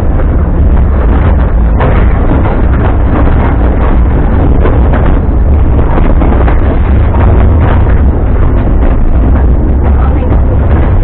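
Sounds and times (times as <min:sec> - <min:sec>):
moving train rumble: 0:00.0 - 0:11.0
wind buffeting microphone: 0:00.0 - 0:11.0.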